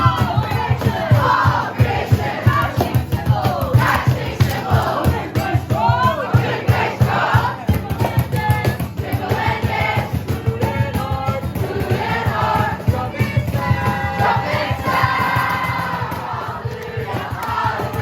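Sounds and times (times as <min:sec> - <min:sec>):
group singing worship song: 0:00.0 - 0:18.0.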